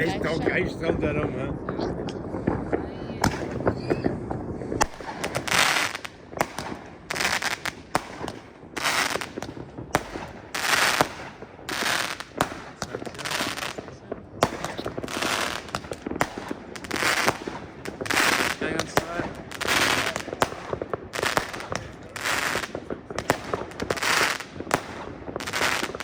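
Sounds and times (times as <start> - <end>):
fireworks banging: 0.0 - 26.0
fireworks hissing bursts: 0.0 - 26.0.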